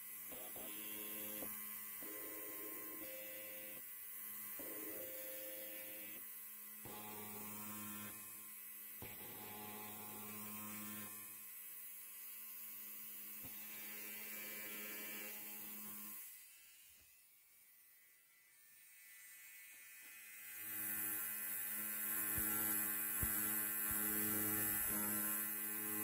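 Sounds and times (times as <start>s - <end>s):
electric hair clipper buzzing: 0.0s - 26.0s.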